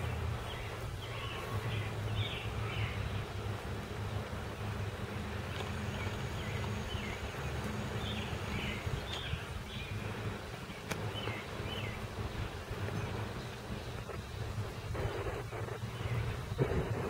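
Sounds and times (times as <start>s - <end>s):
small birds chirping: 0.0s - 17.0s
wind buffeting microphone: 0.0s - 17.0s.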